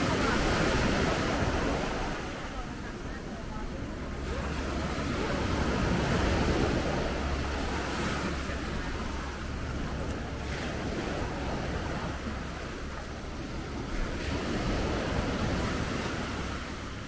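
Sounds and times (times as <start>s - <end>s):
sea waves washing in: 0.0s - 17.0s
wind rumbling on microphone: 0.0s - 17.0s.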